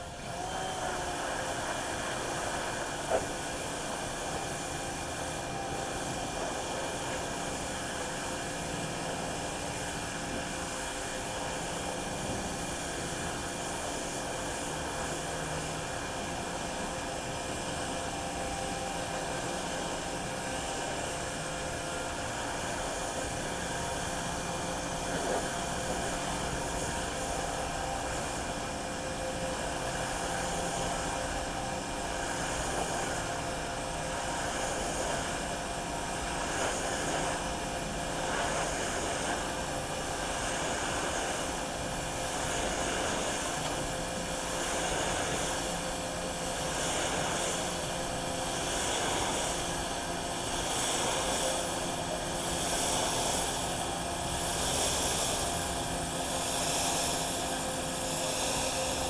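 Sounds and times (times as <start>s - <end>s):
motor or blower rushing: 0.0s - 59.0s.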